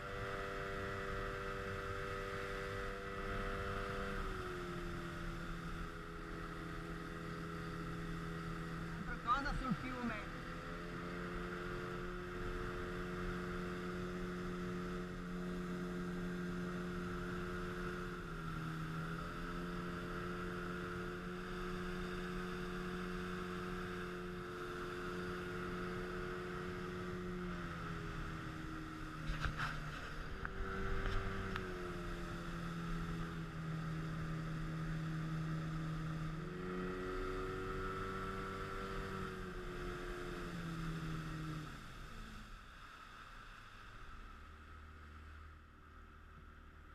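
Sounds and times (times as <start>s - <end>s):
speedboat engine running: 0.0s - 46.9s.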